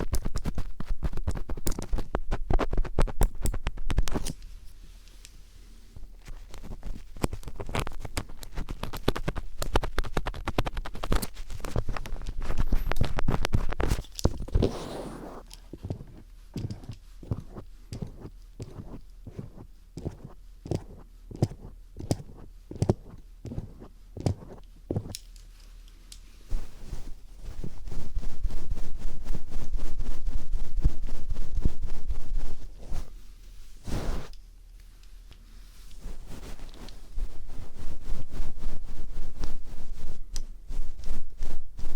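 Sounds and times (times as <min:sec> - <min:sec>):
screwdriver scratching on microphone: 0:00.0 - 0:04.4, 0:06.3 - 0:25.2, 0:26.5 - 0:33.1, 0:33.9 - 0:34.4, 0:36.0 - 0:41.9.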